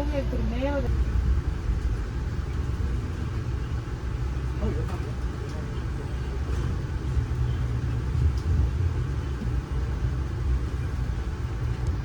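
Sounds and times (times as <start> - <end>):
train rumbling inside coach: 0.0 - 12.0.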